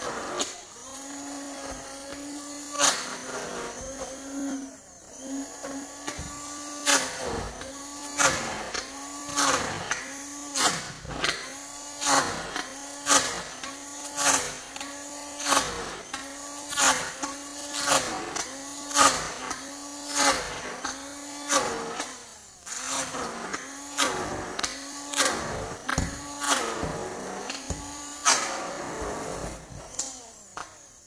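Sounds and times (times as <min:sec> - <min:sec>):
electric hand mixer running: 0:00.0 - 0:31.0.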